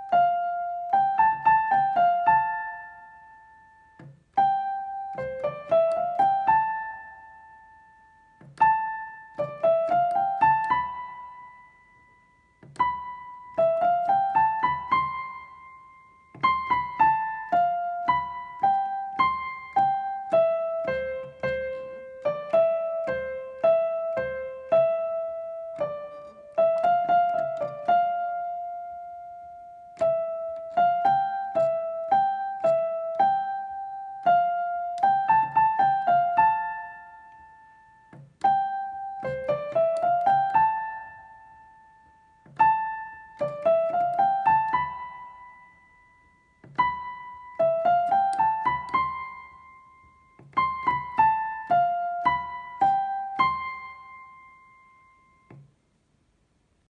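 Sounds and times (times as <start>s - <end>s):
piano keyboard children's melody: 0.0s - 56.9s.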